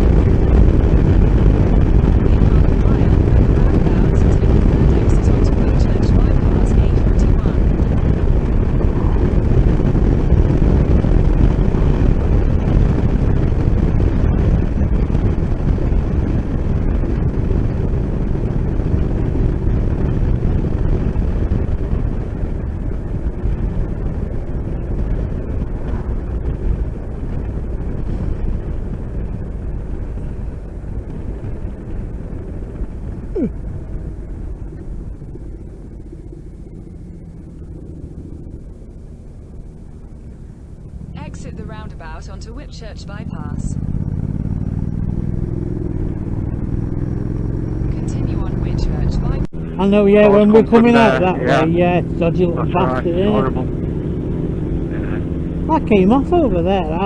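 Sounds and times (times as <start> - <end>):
falling whine: 0.0 - 57.0
motorcycle engine: 0.0 - 57.0
wind rush: 0.0 - 57.0.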